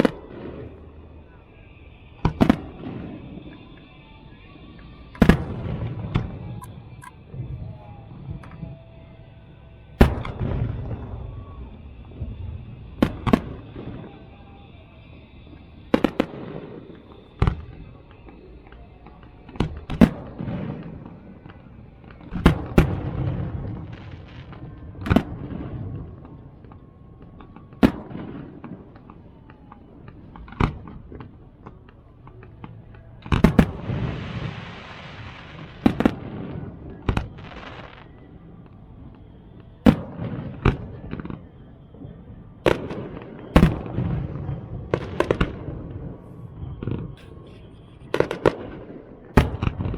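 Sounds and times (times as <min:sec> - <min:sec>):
fireworks bangs: 0:00.0 - 0:49.9
fireworks crackling: 0:00.0 - 0:49.9
rolling rumble and echo: 0:00.0 - 0:49.9.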